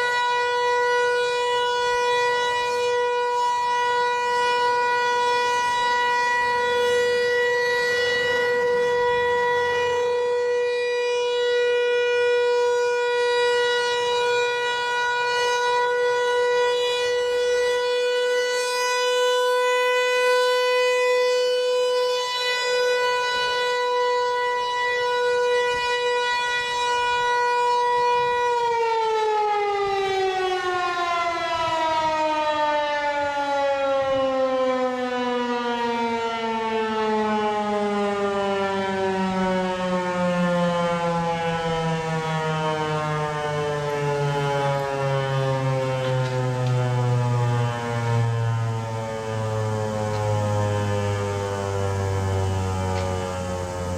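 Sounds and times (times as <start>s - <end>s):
warning siren steady tone: 0.0s - 53.9s.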